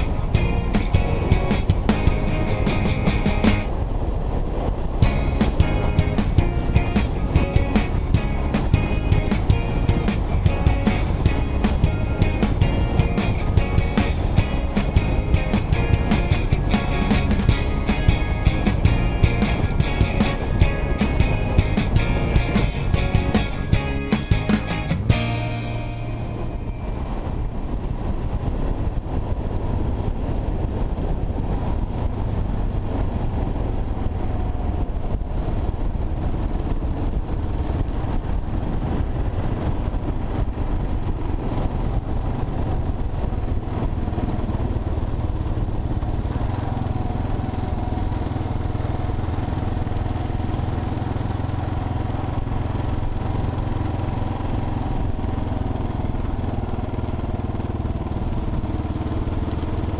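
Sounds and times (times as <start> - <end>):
motorcycle engine cruising: 0.0 - 3.8, 5.0 - 28.8, 35.6 - 59.9
road and wind rush: 0.0 - 59.9.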